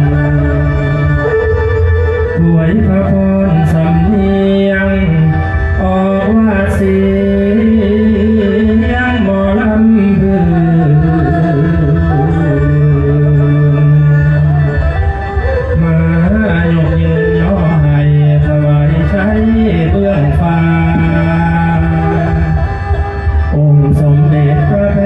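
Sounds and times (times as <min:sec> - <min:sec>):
low musical accompaniment: 0:00.0 - 0:25.0
person singing: 0:00.0 - 0:25.0.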